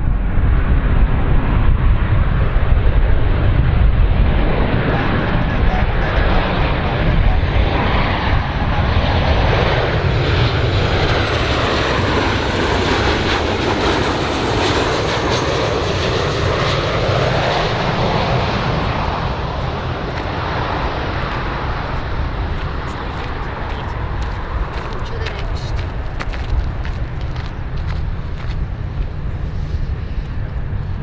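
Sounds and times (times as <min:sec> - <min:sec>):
aeroplane engines rushing: 0:00.0 - 0:31.0.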